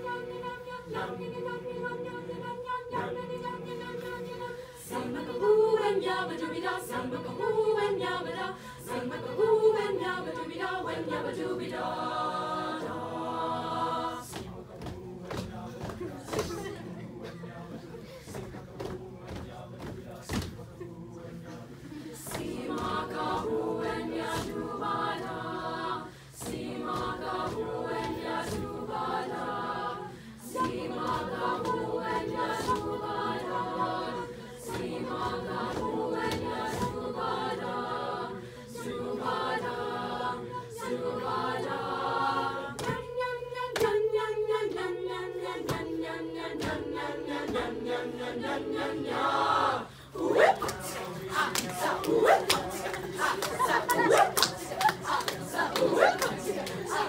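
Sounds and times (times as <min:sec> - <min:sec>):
choir singing in harmony: 0:00.0 - 0:18.0, 0:20.6 - 0:57.0.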